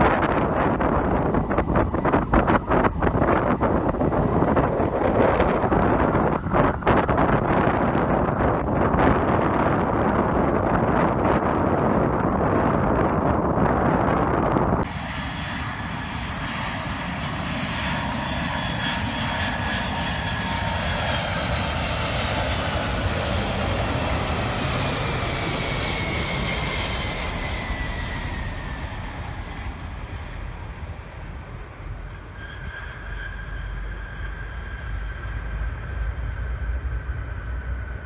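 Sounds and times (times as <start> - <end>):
jet plane flying past low: 0.0 - 38.0.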